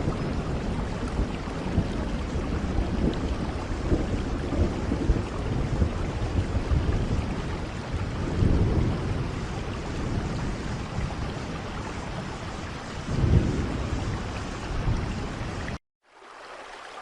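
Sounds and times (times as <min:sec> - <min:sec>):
heavy rain: 0:00.0 - 0:15.8
thunder rumbling: 0:00.0 - 0:15.8.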